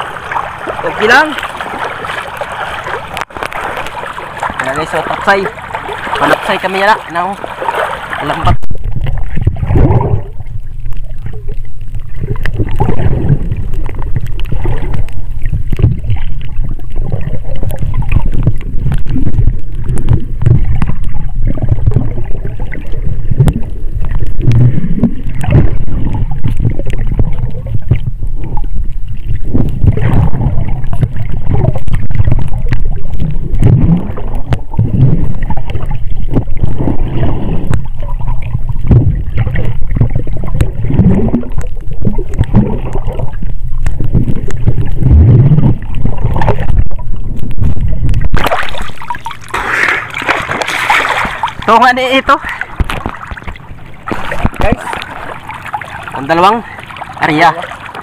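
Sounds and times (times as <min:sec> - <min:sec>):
underwater water sloshing: 0:00.0 - 0:58.0.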